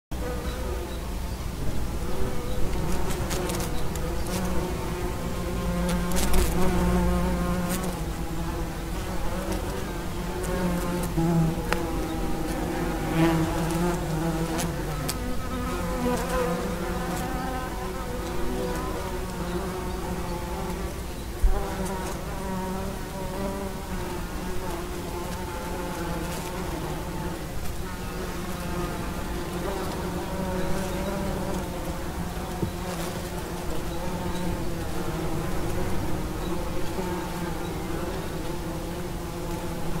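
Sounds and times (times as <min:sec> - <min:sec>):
wasps buzzing: 0:01.8 - 0:40.0.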